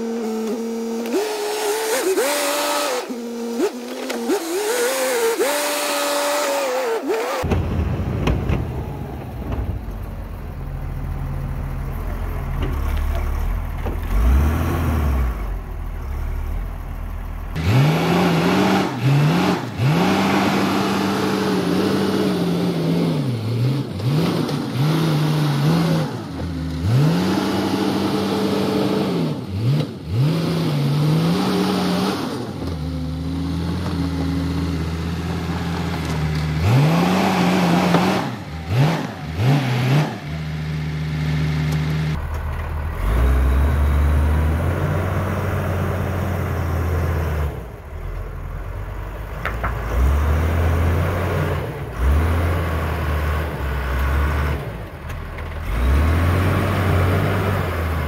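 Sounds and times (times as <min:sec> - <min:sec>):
dozer diesel engine lugging: 0:00.0 - 0:58.0.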